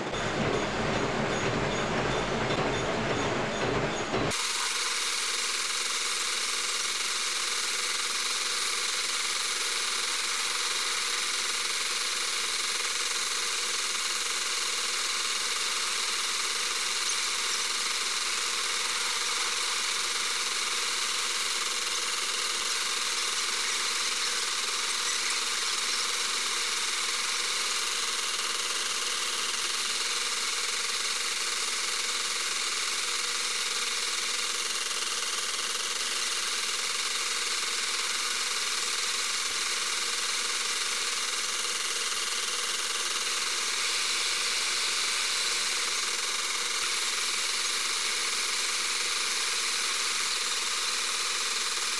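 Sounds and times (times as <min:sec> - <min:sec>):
metal lathe running: 0:00.0 - 0:51.9.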